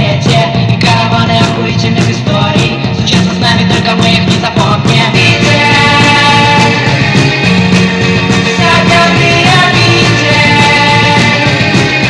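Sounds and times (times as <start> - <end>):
sped-up rock song: 0.0 - 12.0.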